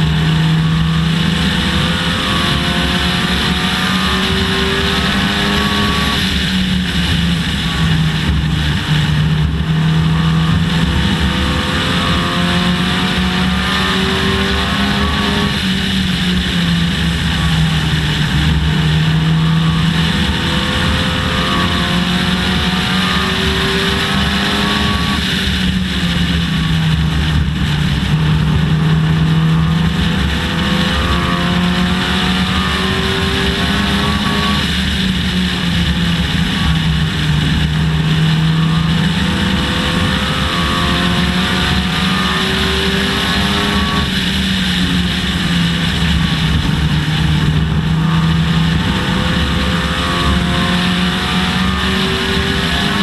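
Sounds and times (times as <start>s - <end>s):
race car engine accelerating: 0.0s - 53.0s
road and wind noise: 0.0s - 53.0s.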